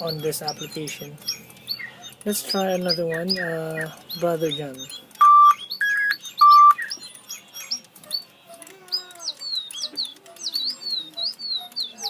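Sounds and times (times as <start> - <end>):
electronic toy birds whistling: 0.0 - 8.3, 8.9 - 12.0.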